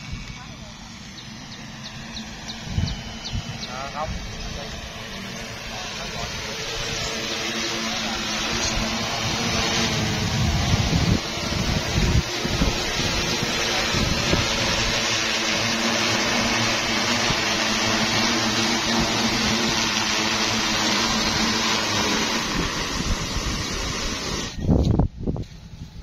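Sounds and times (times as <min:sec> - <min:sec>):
drone rotors whirring: 0:00.0 - 0:26.0.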